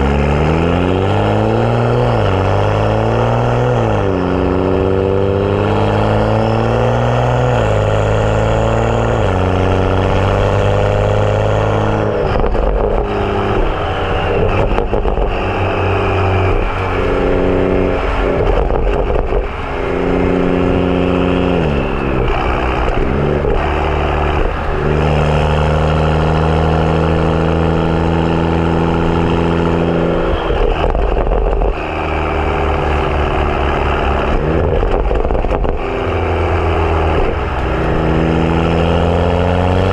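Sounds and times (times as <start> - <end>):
car exhaust while driving: 0.0 - 39.9
exhaust crackling: 0.0 - 39.9.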